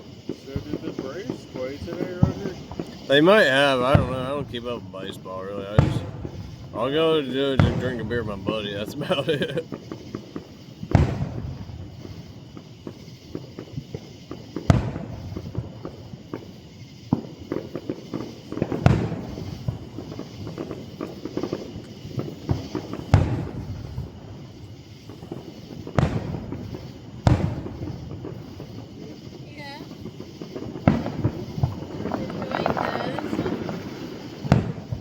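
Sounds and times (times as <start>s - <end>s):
firework pops and crackling: 0.0s - 35.0s
firework shells booming: 0.0s - 35.0s.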